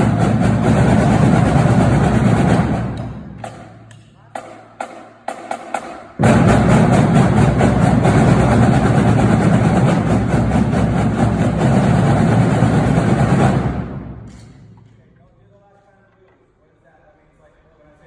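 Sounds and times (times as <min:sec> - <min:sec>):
loud distorted percussion ensemble: 0:00.0 - 0:14.8.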